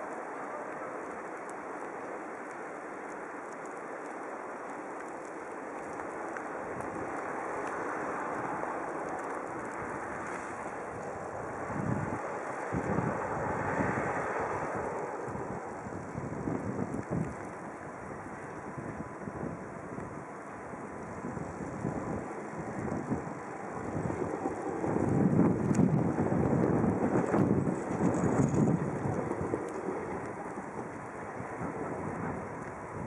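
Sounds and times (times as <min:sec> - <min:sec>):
cars passing on snowy road: 0:00.1 - 0:33.0
wind buffeting microphone: 0:04.7 - 0:33.0.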